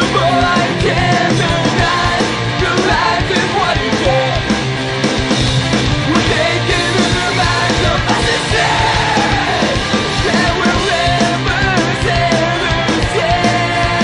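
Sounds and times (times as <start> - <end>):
punk rock music: 0.0 - 14.0.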